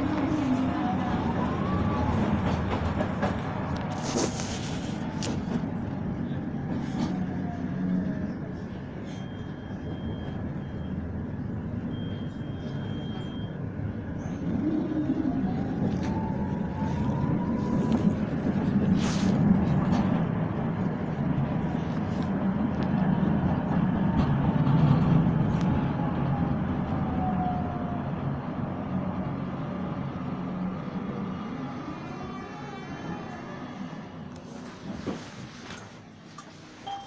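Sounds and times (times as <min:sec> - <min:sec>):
tram wheels rumbling on rails: 0:00.0 - 0:36.2.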